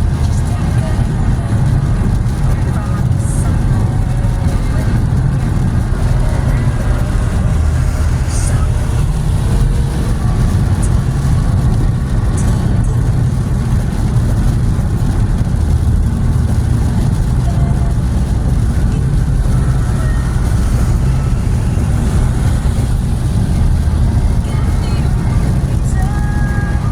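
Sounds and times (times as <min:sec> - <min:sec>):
car engine and road rumble: 0:00.0 - 0:26.9.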